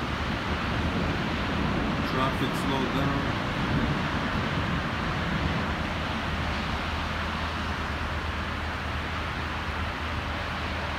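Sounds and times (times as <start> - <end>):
freeway traffic rushing: 0.0 - 10.9.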